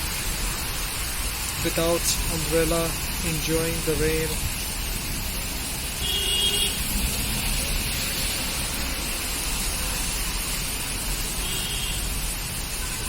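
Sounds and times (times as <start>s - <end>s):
rain falling: 0.0s - 13.0s
road traffic rumble: 0.0s - 13.0s.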